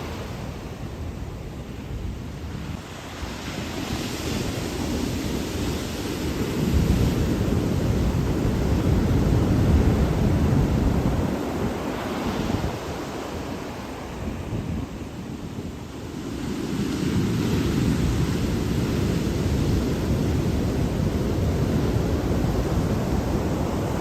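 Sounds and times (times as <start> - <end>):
ocean surf washing on beach: 0.0 - 24.0
wind buffeting microphone: 0.0 - 24.0.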